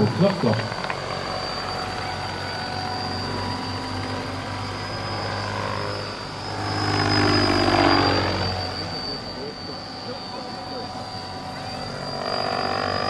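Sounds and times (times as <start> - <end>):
model helicopter rotor hum and whine: 0.0 - 13.0.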